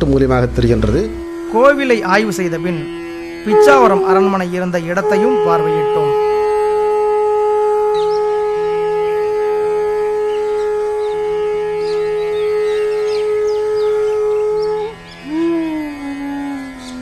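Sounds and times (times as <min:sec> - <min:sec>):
wind instrument long note: 0:01.0 - 0:17.0.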